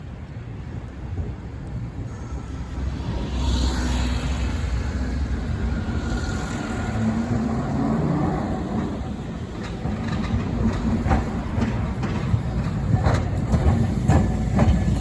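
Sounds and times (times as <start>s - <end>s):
tram rumble pulling away: 1.7s - 15.0s.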